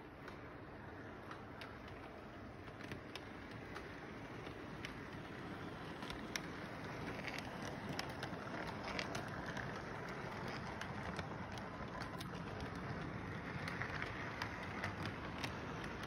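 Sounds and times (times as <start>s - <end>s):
model train rumbling on track: 2.8s - 16.0s.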